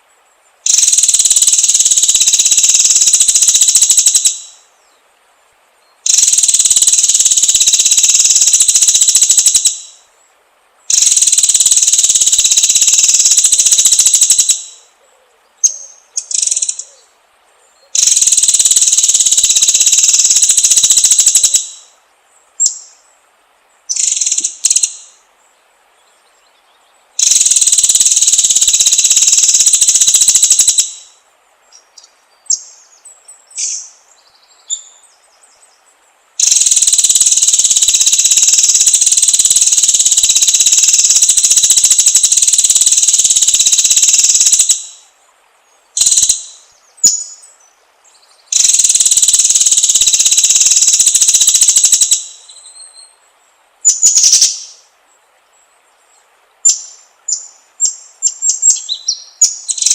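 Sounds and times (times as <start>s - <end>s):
songbird singing rapid high notes: 0.6s - 4.6s, 5.8s - 10.1s, 10.9s - 14.9s, 15.6s - 17.1s, 17.8s - 22.0s, 23.8s - 25.2s, 26.0s - 35.8s, 36.4s - 45.1s, 45.7s - 53.2s, 53.8s - 54.9s, 56.6s - 59.9s.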